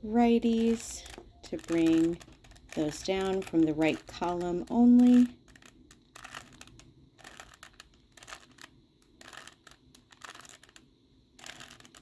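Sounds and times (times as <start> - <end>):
plastic puzzle cube clicking: 0.5 - 12.0.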